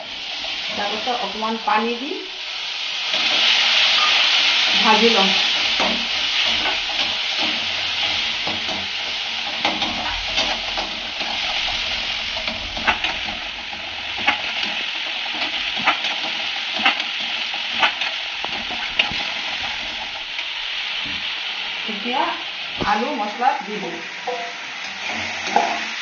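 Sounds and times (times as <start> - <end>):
masala sizzling in a pan: 0.0 - 26.0.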